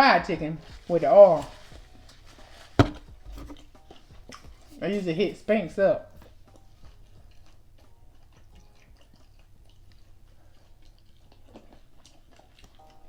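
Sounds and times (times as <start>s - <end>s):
chewing crispy fried chicken: 0.0s - 13.0s.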